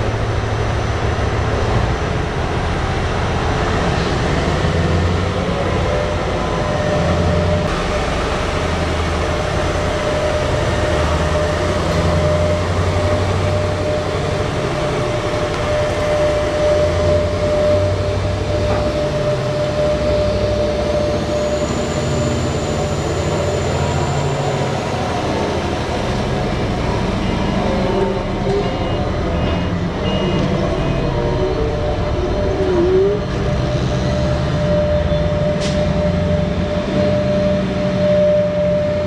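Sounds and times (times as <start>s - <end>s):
dump truck deep drone: 0.0s - 39.0s
steady whine: 0.0s - 39.0s.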